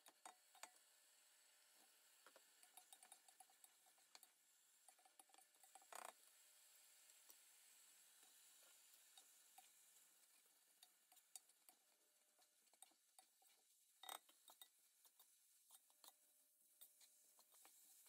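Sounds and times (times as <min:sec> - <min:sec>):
faint sizzling hiss: 0:00.0 - 0:18.0.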